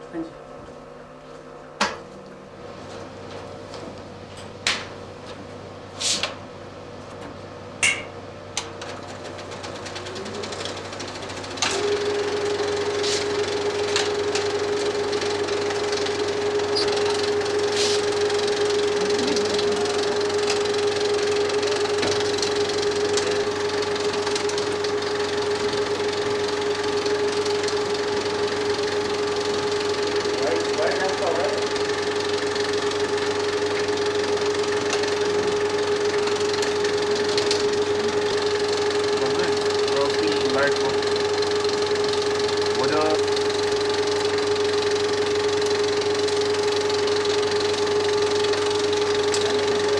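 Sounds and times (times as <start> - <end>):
film projector running hum: 0.0 - 49.9.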